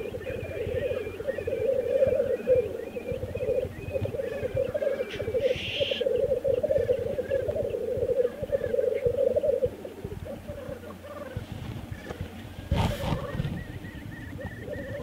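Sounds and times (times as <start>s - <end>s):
grouse bubbling coo: 0.0s - 15.0s.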